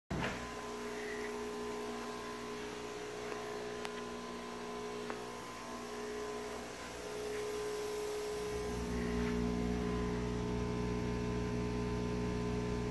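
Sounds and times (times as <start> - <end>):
laser cutting machine humming: 0.1 - 12.9.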